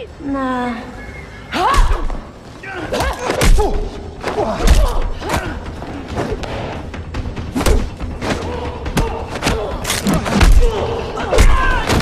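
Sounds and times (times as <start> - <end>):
dramatic music score: 0.7 - 12.0.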